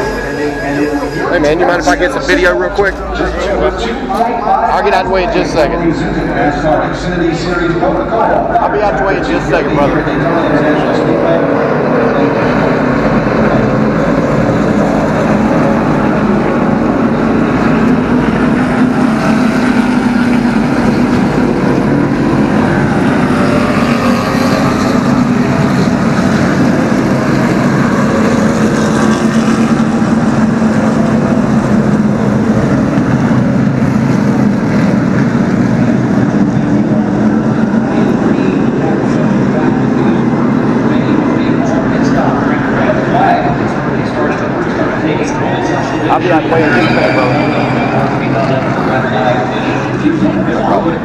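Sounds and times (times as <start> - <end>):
many race car engines: 0.0 - 51.0.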